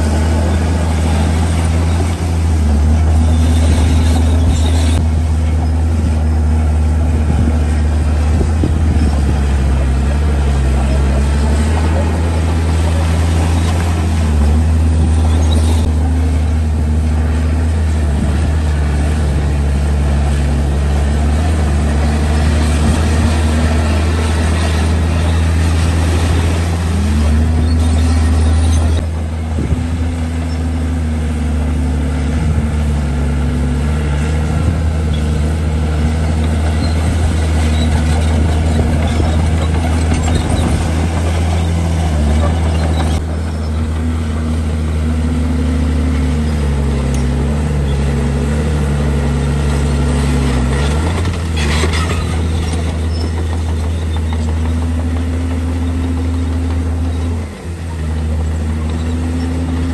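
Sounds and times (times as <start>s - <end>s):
heavy diesel engine revving: 0.0s - 59.9s.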